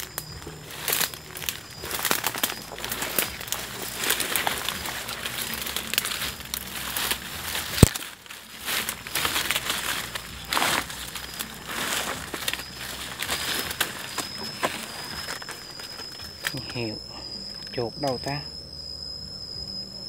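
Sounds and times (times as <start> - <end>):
leaves and twigs rustling: 0.0 - 19.1.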